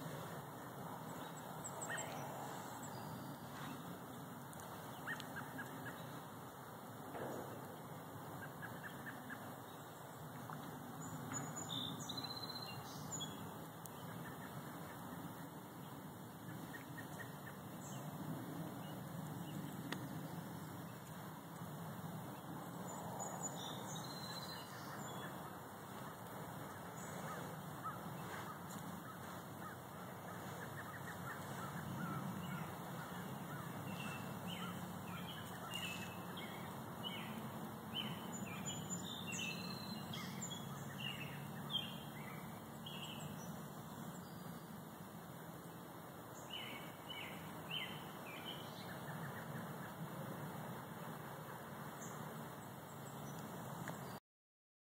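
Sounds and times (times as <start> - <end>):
songbirds chirping: 0.0 - 54.2.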